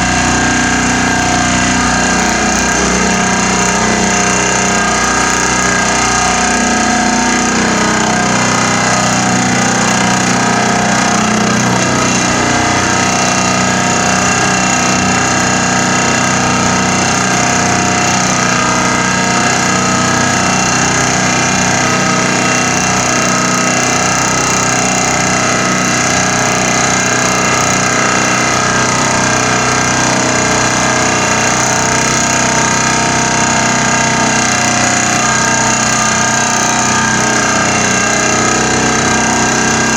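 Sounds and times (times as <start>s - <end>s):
pile driver vibrating drone: 0.0s - 39.9s.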